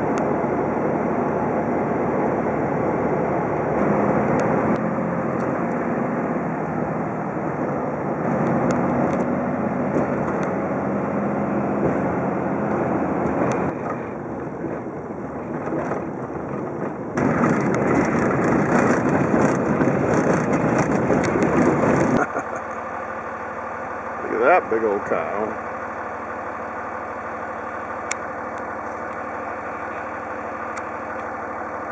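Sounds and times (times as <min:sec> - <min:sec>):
truck engine and road noise: 0:00.0 - 0:31.9.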